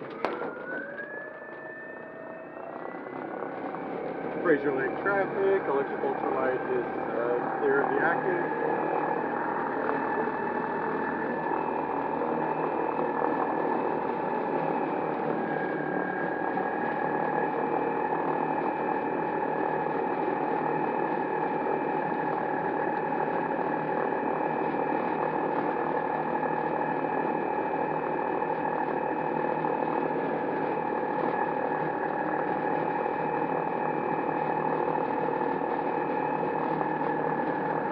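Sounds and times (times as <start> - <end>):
electric motor whining: 0.0 - 37.9.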